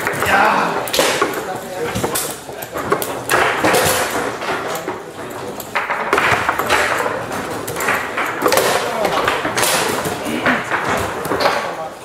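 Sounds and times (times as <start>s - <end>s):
table football ball clacking: 0.0s - 11.8s.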